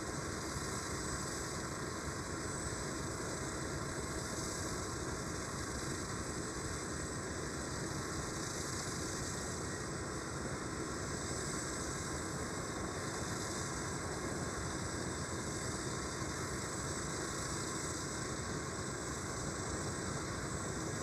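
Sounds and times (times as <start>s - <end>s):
engine drone with high hiss: 0.0s - 21.0s.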